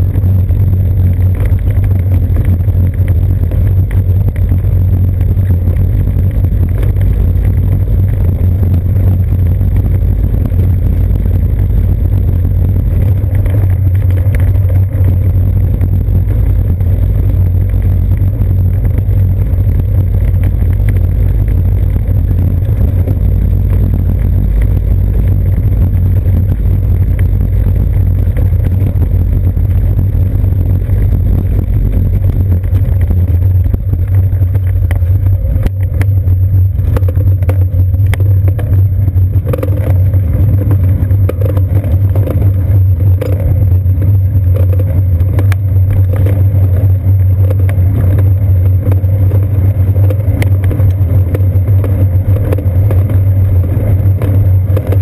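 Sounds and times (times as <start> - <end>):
road vibration rumble: 0.0 - 55.0
wind noise: 0.0 - 55.0.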